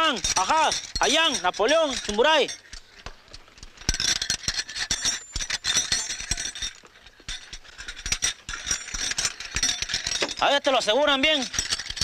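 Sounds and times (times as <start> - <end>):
metal clinking and rattling: 0.0 - 12.0.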